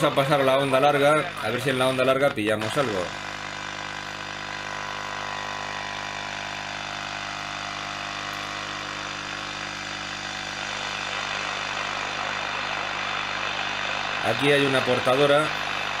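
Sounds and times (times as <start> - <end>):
radio mains hum: 0.0 - 16.0
radio static hiss: 0.0 - 16.0.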